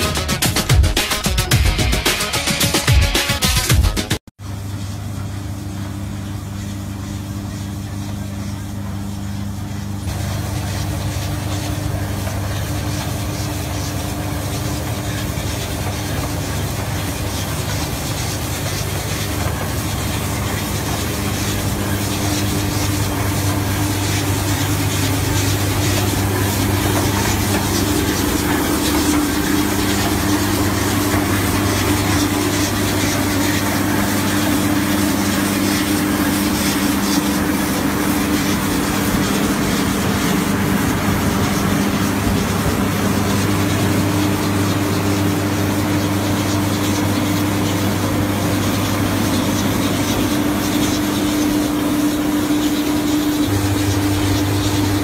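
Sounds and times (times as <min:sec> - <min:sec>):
machine engine running: 0:00.0 - 0:55.0.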